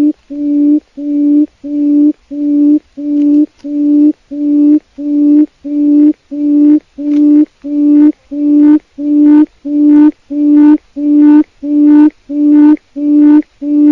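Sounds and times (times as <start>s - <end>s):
quail low hoots: 0.0s - 13.9s.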